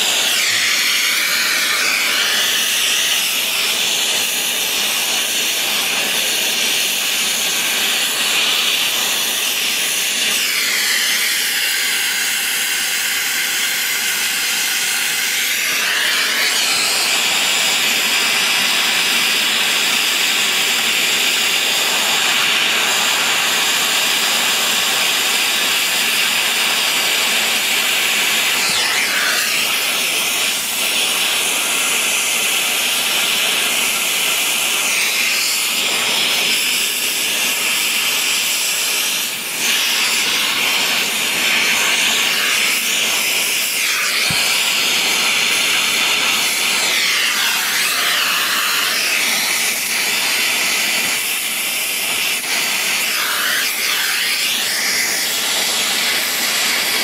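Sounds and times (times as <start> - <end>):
torch flame hissing: 0.0 - 11.9, 15.4 - 57.0.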